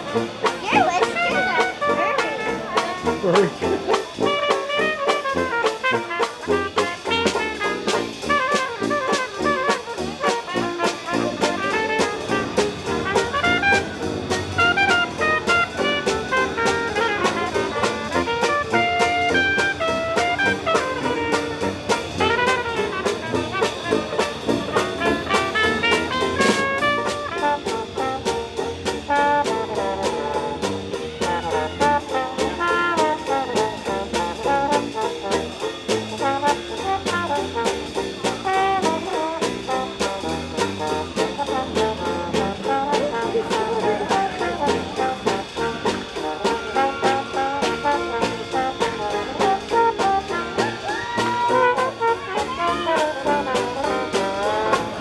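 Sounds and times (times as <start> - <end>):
jazzy brass music: 0.0 - 55.0.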